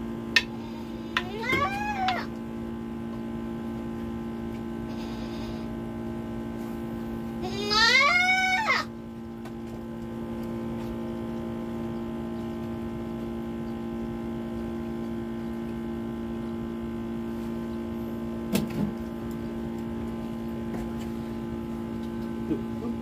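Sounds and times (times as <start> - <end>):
steady engine hum: 0.0 - 23.0.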